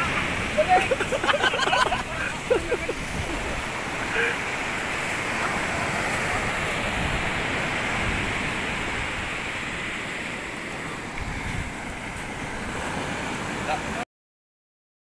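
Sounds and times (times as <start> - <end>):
ocean surf on beach: 0.0 - 14.0.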